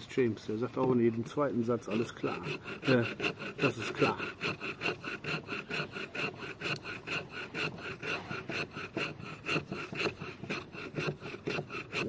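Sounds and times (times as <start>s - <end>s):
knife scraping wooden stick: 0.8s - 12.0s.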